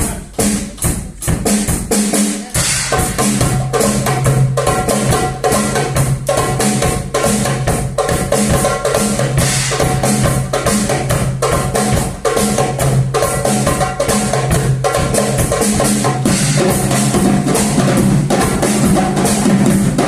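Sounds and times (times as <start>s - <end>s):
hand drums playing fast rhythm: 0.0s - 20.0s.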